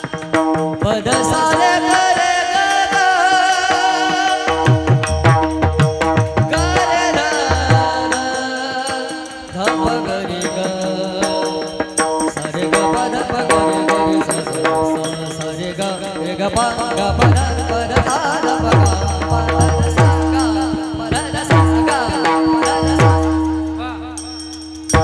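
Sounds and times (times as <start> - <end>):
devotional singing: 0.8 - 5.0, 6.5 - 24.2.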